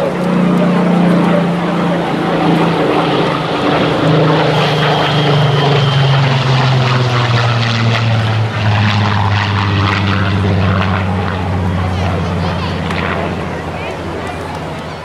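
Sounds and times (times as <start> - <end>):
propeller plane flying past: 0.0 - 15.0.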